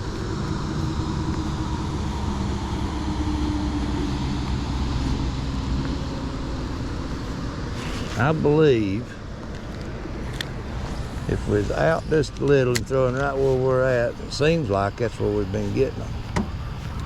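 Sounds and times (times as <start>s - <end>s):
boat motor humming: 0.0s - 17.0s
water noise: 0.0s - 17.0s
wind: 0.0s - 17.0s.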